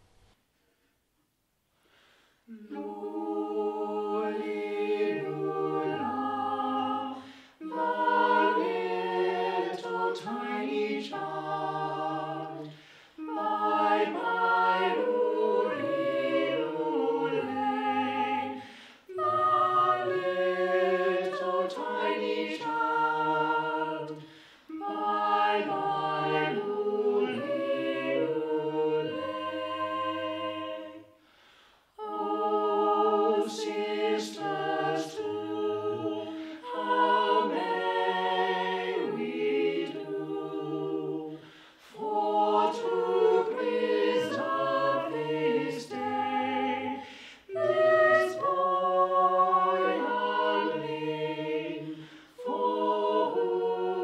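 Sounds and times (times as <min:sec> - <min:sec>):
choir singing unaccompanied: 0:02.5 - 0:31.3, 0:32.0 - 0:54.0.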